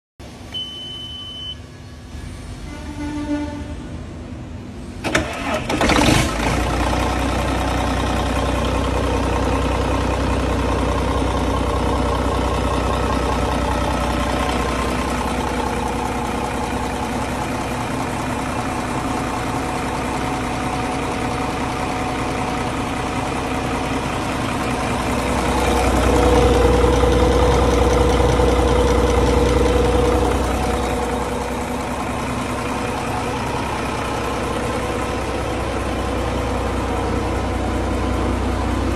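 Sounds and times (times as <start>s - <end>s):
diesel engine cranking and running: 4.9s - 38.9s.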